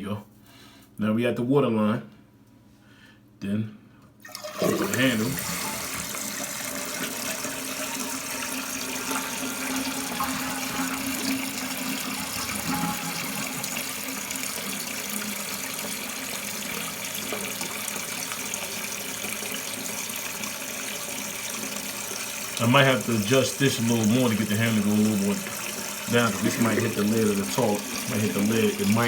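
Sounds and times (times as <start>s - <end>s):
toilet tank refilling: 4.2s - 29.0s.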